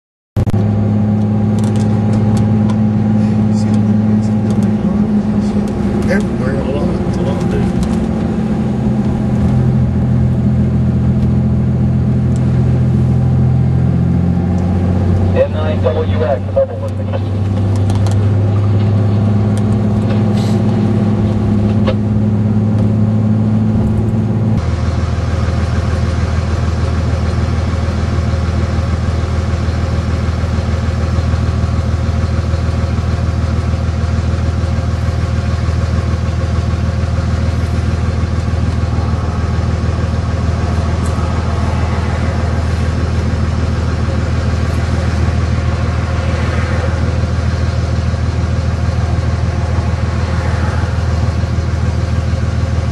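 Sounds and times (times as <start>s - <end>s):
car engine drone: 0.4s - 52.9s
road noise: 0.4s - 52.9s.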